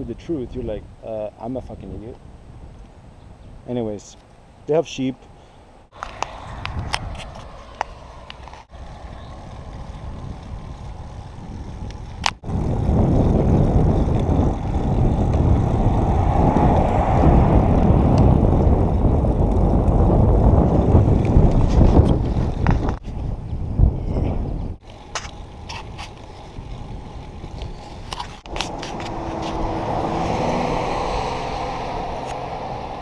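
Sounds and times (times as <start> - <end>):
bike rolling on asphalt: 5.4 - 33.0
wind rushing over microphone: 5.9 - 33.0.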